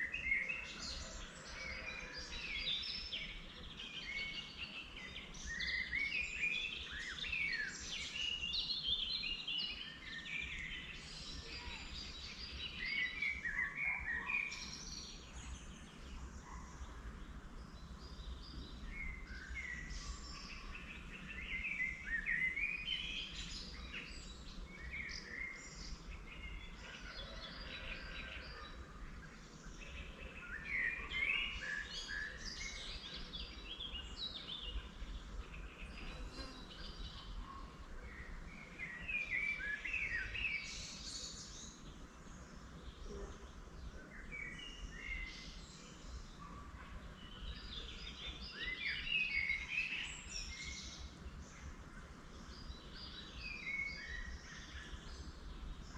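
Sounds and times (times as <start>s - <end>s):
songbirds chirping and warbling: 0.0s - 55.9s.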